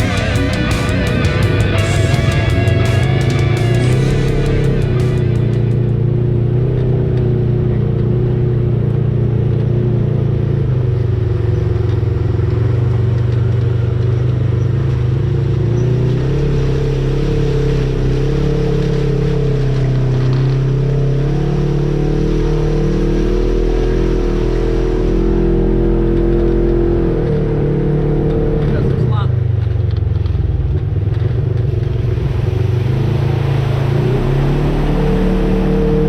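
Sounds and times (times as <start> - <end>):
off-road vehicle engine running: 0.0 - 36.0.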